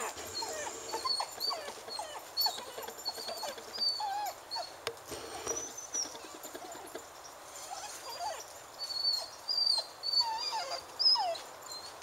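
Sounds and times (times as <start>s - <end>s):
puppy whimpering: 0.0s - 4.8s, 5.5s - 7.0s, 7.6s - 12.0s.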